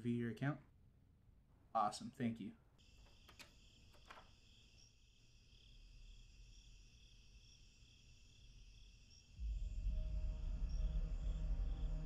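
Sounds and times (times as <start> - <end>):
faint crickets chirping: 0.1 - 12.0.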